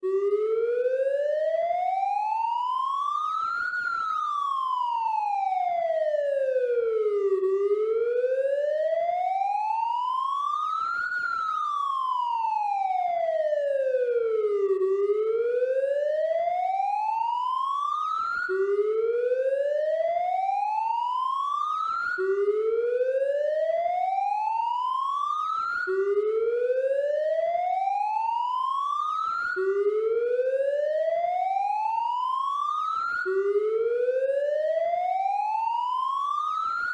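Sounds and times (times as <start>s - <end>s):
siren sweeping up and down: 0.0s - 36.9s.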